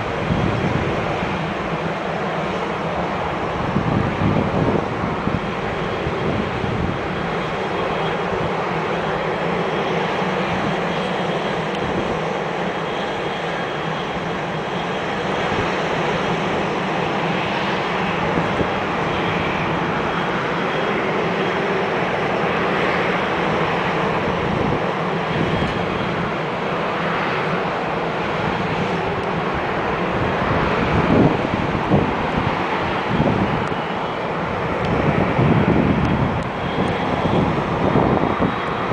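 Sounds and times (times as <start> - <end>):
distant airliner jet engines: 0.0 - 38.9
faint high engine whine: 0.0 - 38.9.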